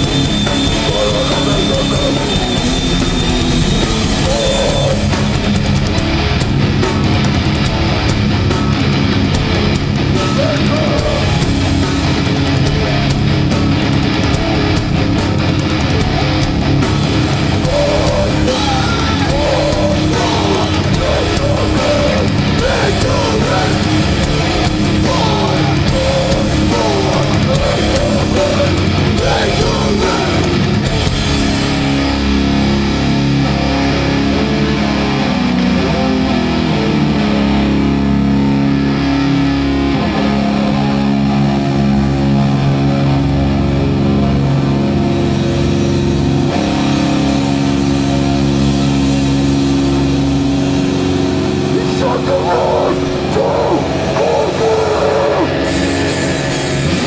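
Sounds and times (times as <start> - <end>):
punk band playing loud: 0.0 - 57.0.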